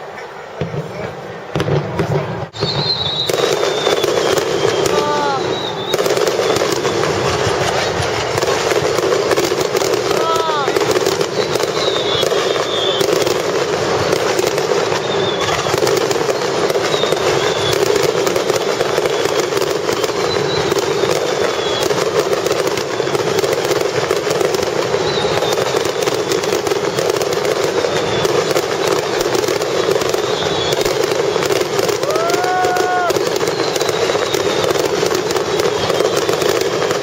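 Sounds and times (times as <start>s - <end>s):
fireworks crackling: 0.0s - 37.0s
falling whistles: 2.5s - 7.3s, 9.9s - 37.0s.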